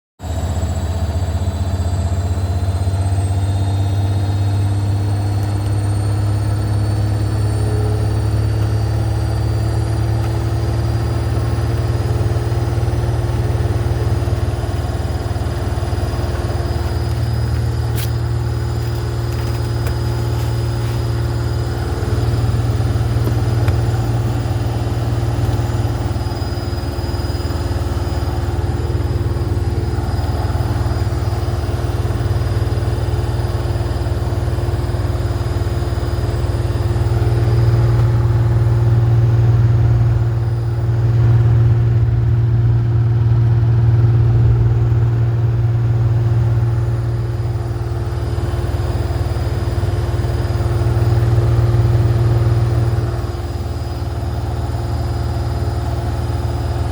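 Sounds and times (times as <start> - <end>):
washing machine motor drone: 0.2 - 56.9.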